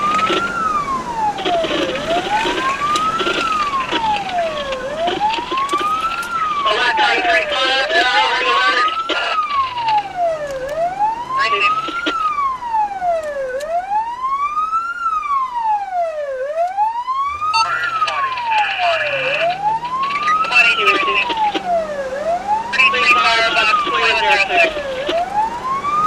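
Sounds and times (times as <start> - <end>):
wailing siren: 0.0 - 26.0.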